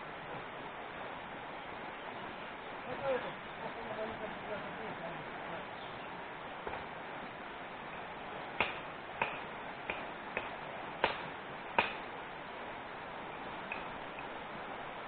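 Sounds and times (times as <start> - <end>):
shallow stream running: 0.0 - 15.0.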